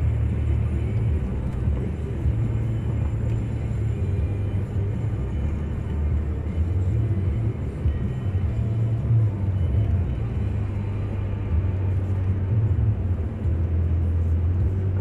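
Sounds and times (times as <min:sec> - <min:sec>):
car driving on slushy road: 0:00.0 - 0:15.0.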